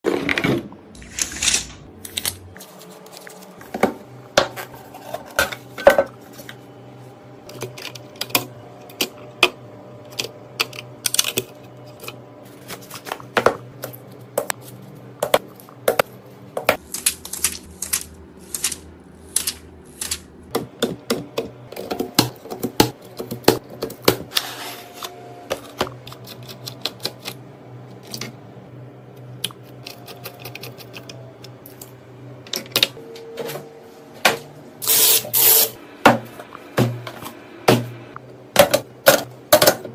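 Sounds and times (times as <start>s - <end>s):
steady low hum: 0.6s - 39.9s.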